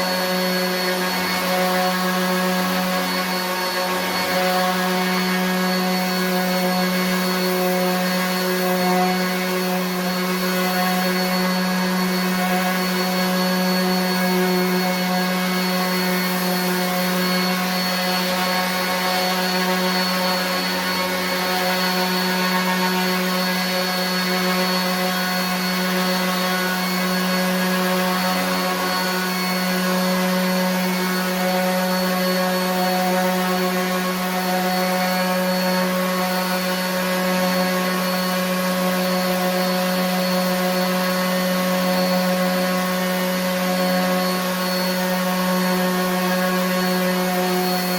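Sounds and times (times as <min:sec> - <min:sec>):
orbit sander sanding wood: 0:00.0 - 0:47.9.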